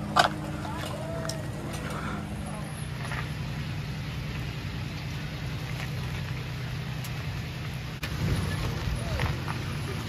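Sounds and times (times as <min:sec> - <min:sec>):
outdoor background noise: 0:00.0 - 0:10.0
truck engine running: 0:00.0 - 0:10.0.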